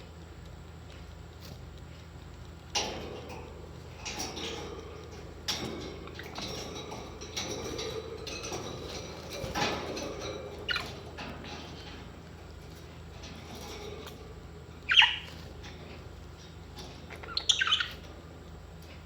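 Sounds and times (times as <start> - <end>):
parrots chirping and chattering: 1.8 - 19.0.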